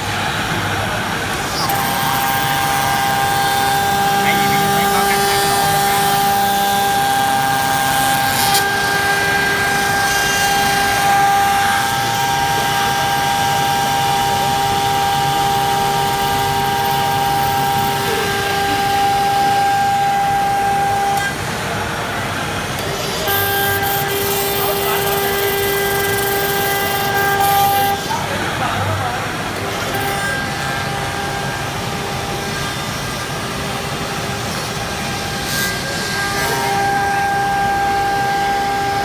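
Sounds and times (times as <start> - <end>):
cutter spindle whining: 0.0 - 39.0
machine noise: 0.0 - 39.0.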